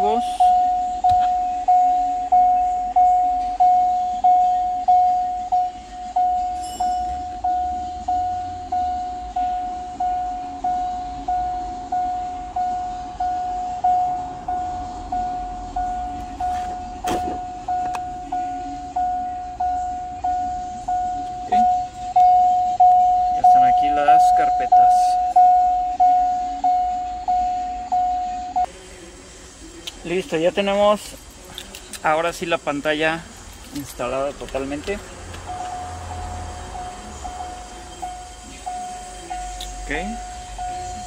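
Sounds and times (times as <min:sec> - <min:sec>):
vehicle warning chime dinging: 0:00.0 - 0:28.7, 0:32.1 - 0:41.0.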